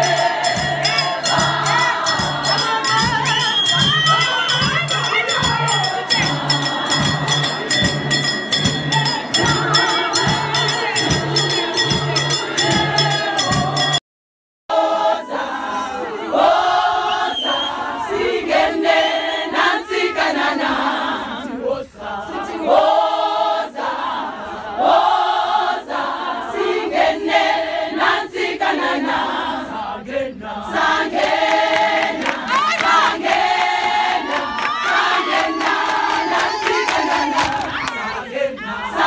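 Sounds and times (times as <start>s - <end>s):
women's choir chanting: 0.0s - 14.0s, 14.7s - 39.0s.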